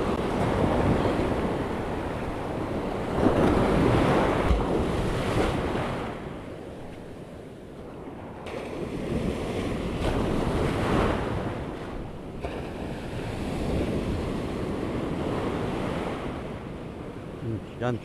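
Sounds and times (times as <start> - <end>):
wind buffeting microphone: 0.0 - 17.5
ocean surf breaking: 0.0 - 18.0.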